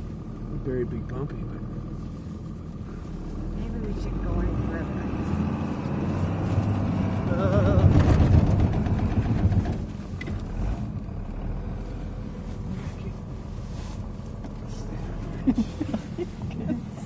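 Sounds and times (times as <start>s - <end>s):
vehicle engine labouring: 0.0s - 17.0s.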